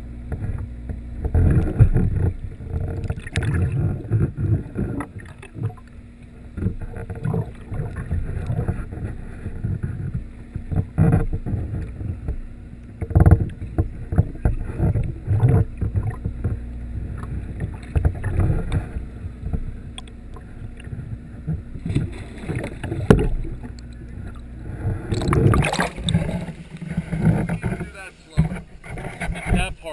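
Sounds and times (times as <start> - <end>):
underwater rumble of moving water: 0.0 - 29.9
dull knocks underwater: 0.3 - 29.8.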